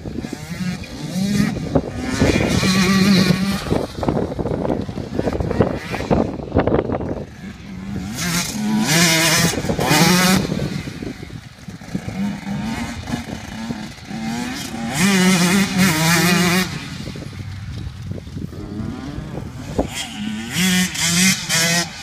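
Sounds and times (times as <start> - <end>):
motocross bike revving: 0.0 - 22.0.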